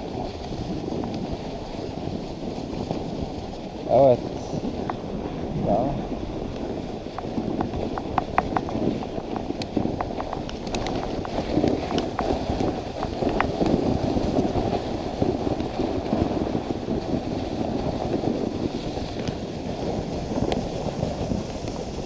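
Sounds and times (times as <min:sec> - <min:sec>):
sled runners hissing over snow: 0:00.0 - 0:22.0.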